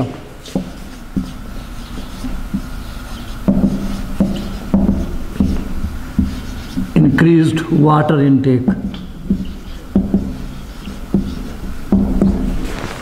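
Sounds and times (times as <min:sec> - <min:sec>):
marker rubbing on whiteboard: 0:00.0 - 0:13.0
squeaky marker strokes: 0:00.4 - 0:12.6.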